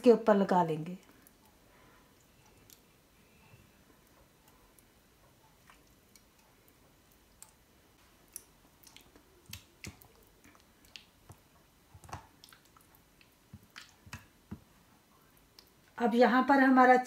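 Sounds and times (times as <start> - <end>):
wet squishing of paste: 1.0 - 16.0.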